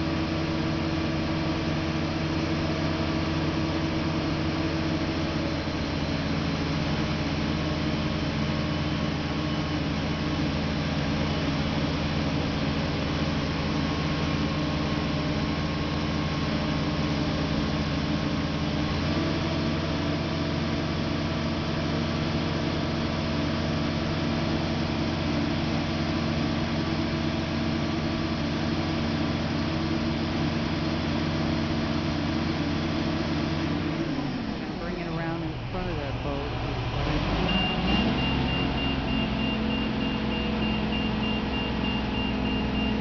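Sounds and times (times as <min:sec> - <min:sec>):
crane engine running: 0:00.0 - 0:43.0.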